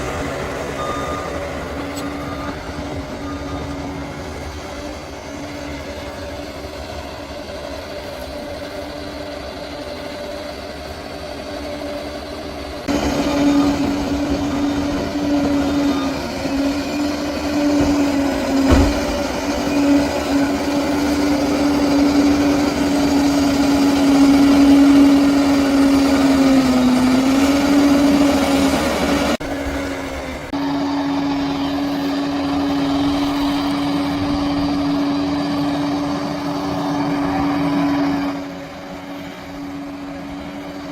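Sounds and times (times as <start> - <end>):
diesel engine running: 0.0 - 40.9
strong steady whine: 0.0 - 40.9.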